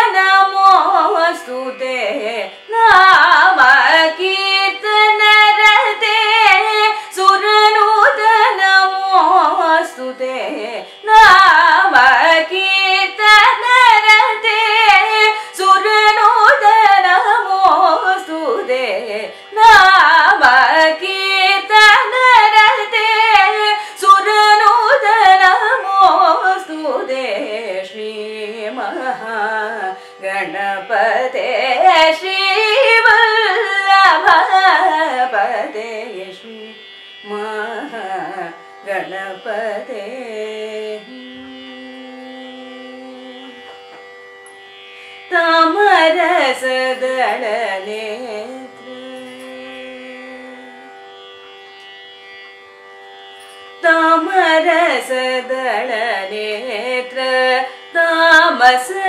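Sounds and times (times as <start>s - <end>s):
woman singing: 0.0s - 44.0s, 45.2s - 50.9s, 53.8s - 59.0s.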